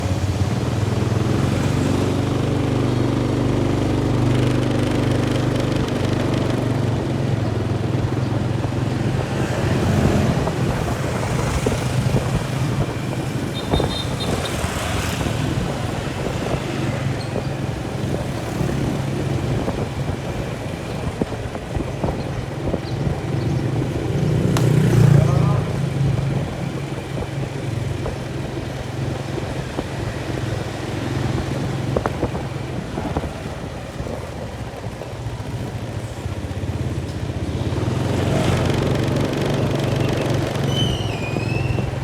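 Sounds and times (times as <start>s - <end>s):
engine droning: 0.0s - 42.0s
road traffic noise: 0.0s - 42.0s.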